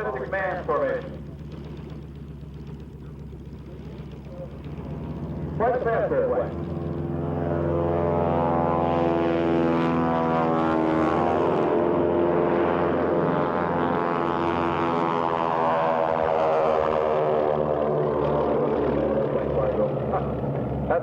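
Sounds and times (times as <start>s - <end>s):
propeller plane droning past: 0.0s - 21.0s.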